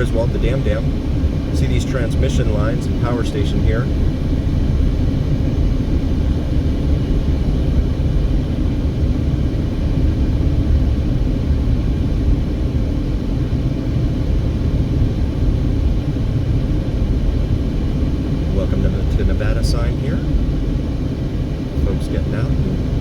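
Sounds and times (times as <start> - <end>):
car driving rumble: 0.0 - 23.0.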